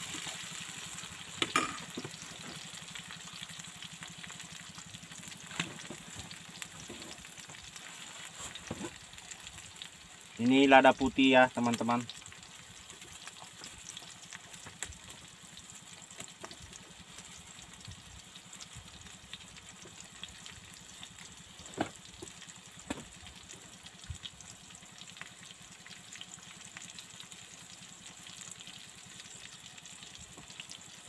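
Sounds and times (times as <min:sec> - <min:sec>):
food sizzling in oil: 0:00.0 - 0:31.0.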